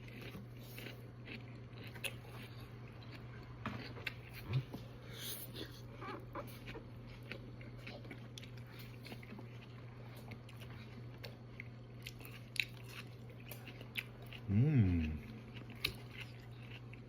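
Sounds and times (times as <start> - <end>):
person chewing food: 0.0 - 17.0
steady low hum: 0.0 - 17.0.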